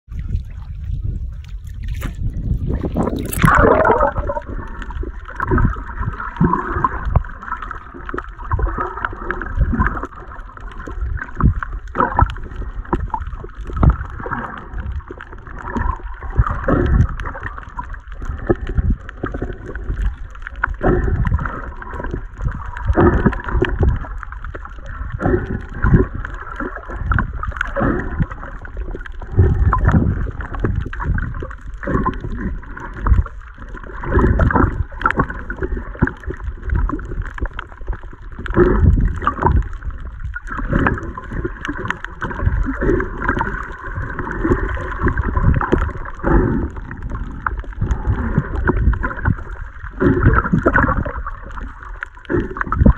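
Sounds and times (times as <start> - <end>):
muffled underwater sloshing: 0.0 - 52.9.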